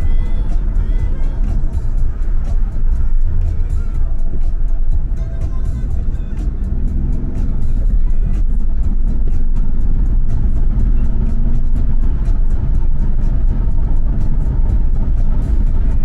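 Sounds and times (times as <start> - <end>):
car engine and tyres rumbling: 0.0 - 16.0
music with ticking beat: 0.0 - 16.0.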